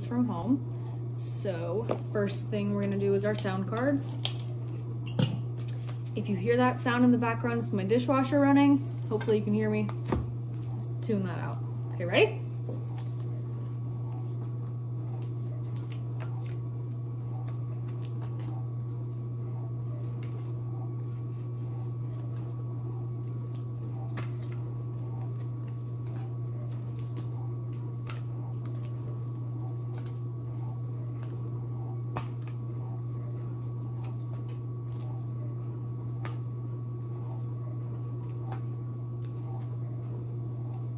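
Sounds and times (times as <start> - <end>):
dishwasher humming: 0.0 - 40.9.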